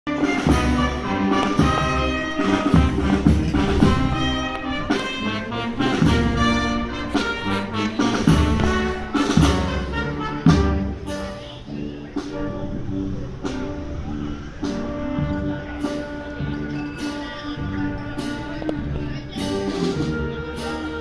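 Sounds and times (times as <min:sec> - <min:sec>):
heavy low bass notes: 0:00.1 - 0:21.0
trumpets and trombones: 0:00.1 - 0:21.0.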